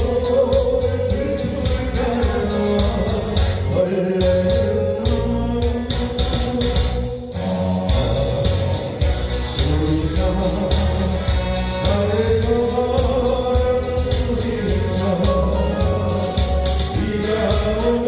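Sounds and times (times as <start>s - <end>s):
polka-style pop song: 0.0s - 18.0s.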